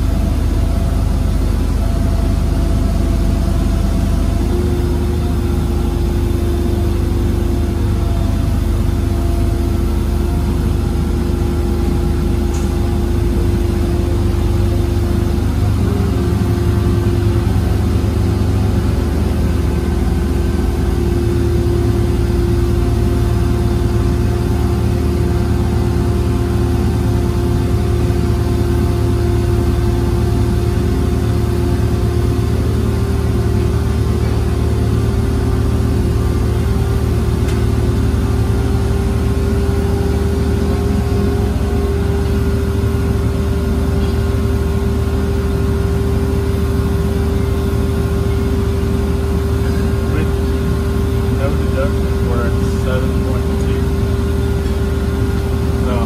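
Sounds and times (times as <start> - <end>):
diesel engine rumble: 0.0 - 56.0
steady hum: 0.0 - 56.0.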